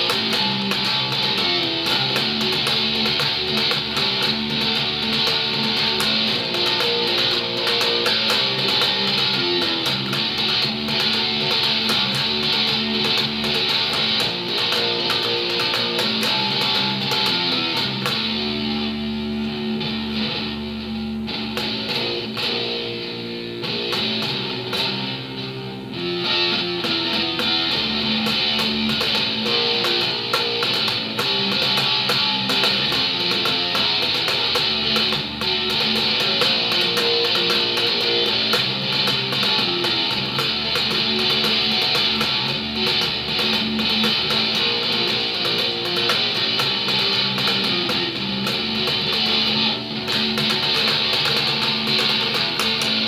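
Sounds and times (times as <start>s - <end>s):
electric bass guitar in rock music: 0.0s - 53.0s.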